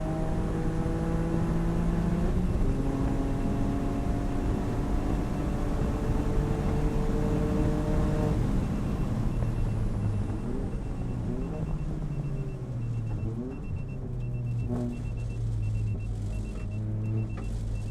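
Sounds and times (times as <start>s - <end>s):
car engine revving under load: 0.0s - 17.9s.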